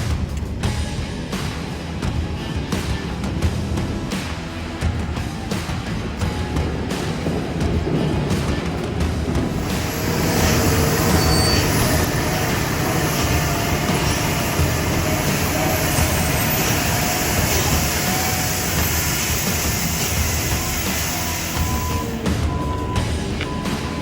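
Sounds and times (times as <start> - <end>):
dump truck engine rumbling: 0.0 - 24.0.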